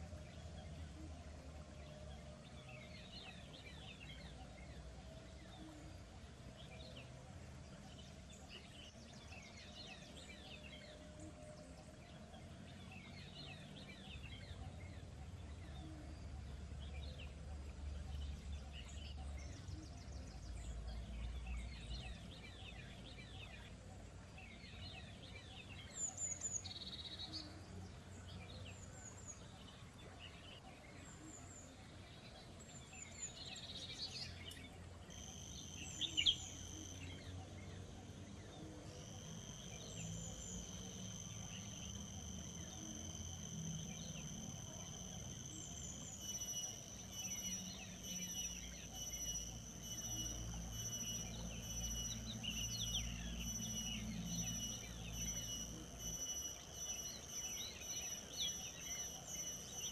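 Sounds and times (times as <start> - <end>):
wild birds singing: 0.0 - 59.9.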